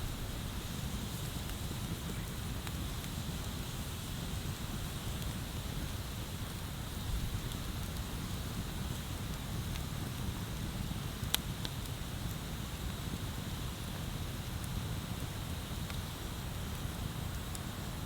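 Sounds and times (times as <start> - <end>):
bonfire crackling and popping: 0.0 - 17.9.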